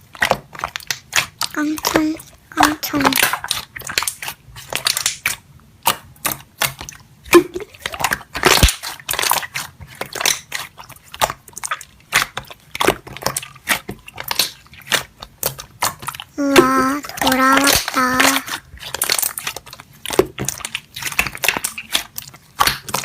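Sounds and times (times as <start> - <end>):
slime squeezed crackling pops: 0.2 - 23.0.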